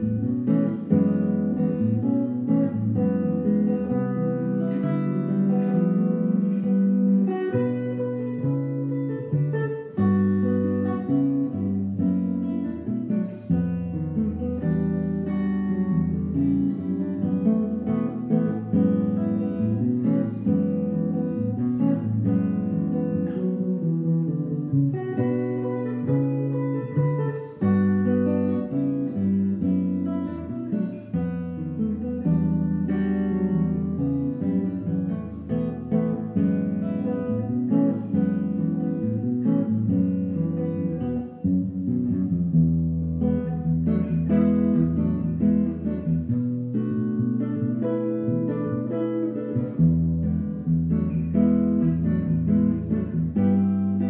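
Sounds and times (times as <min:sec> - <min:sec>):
solo jazz electric guitar: 0:00.0 - 0:54.0.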